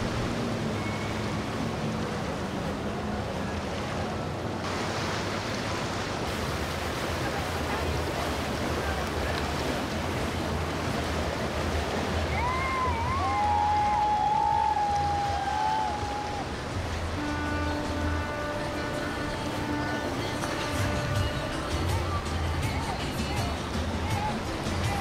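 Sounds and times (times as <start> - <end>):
boat engines rumbling: 0.0 - 25.0
rushing water: 0.0 - 25.0
wind: 0.0 - 25.0.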